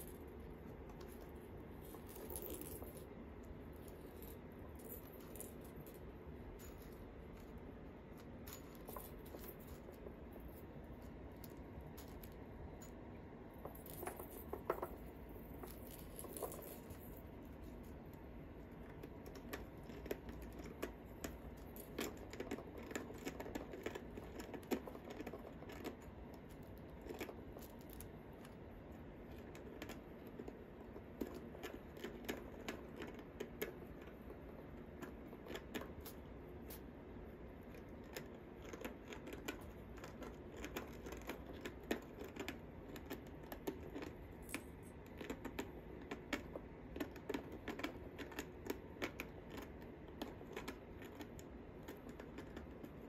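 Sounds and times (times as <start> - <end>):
kittens pawing at toys: 0.0 - 53.0.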